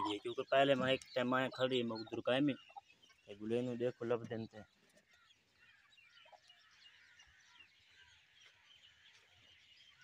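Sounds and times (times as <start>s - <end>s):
chicks chirping: 0.0s - 10.0s.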